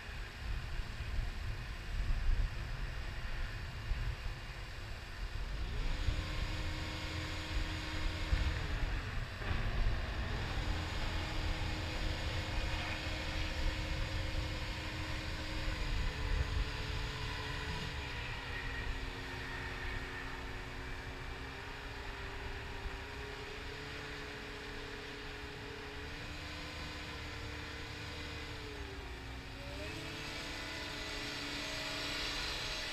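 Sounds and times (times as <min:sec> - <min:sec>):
diesel engine rumbling: 0:00.0 - 0:32.9
hydraulic whine: 0:02.2 - 0:32.9.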